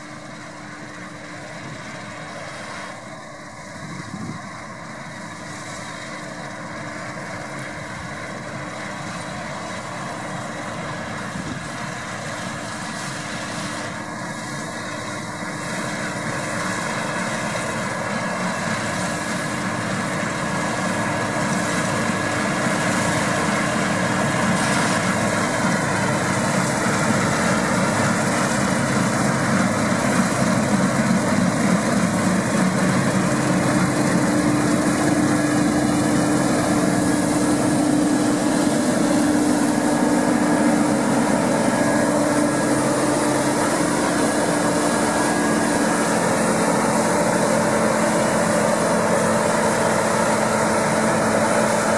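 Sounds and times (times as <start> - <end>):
combine harvester running: 0.0 - 51.9.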